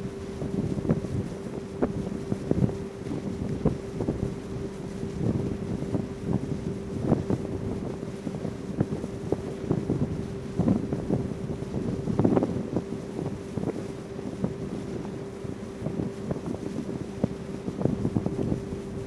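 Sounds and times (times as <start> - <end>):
ferry engine humming: 0.0 - 19.0
wind buffeting microphone: 0.0 - 19.0.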